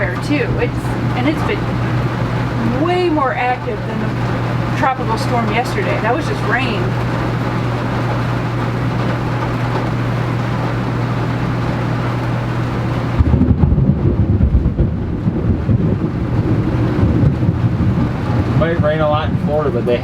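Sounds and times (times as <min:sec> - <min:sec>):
heavy rain: 0:00.0 - 0:20.0
rolling thunder rumble: 0:00.0 - 0:20.0.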